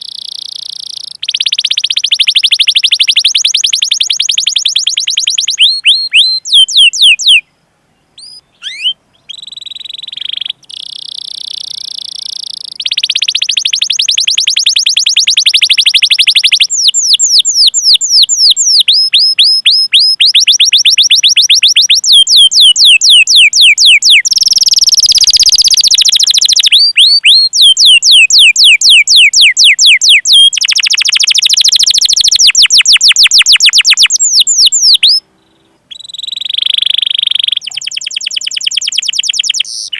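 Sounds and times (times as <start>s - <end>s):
canary singing chirps and trills: 0.0s - 7.5s, 8.1s - 39.9s.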